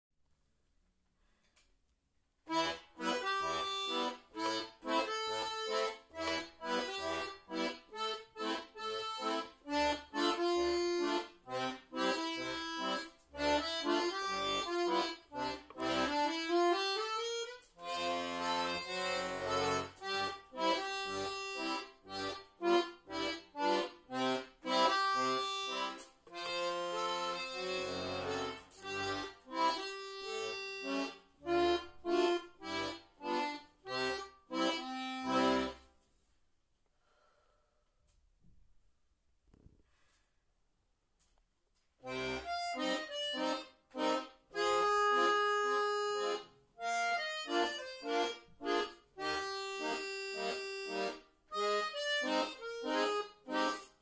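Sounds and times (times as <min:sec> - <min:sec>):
button accordion solo: 0:02.5 - 0:35.9, 0:42.0 - 0:54.0.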